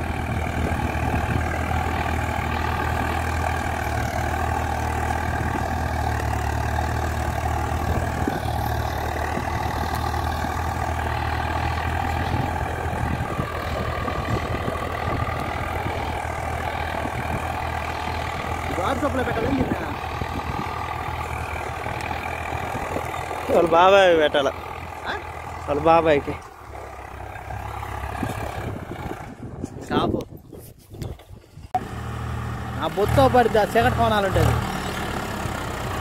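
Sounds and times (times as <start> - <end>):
tractor diesel engine running: 0.0 - 30.1, 31.2 - 36.0.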